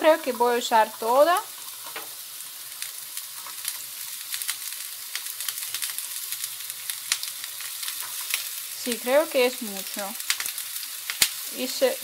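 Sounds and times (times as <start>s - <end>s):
beetroot frying in oil: 0.0s - 12.0s.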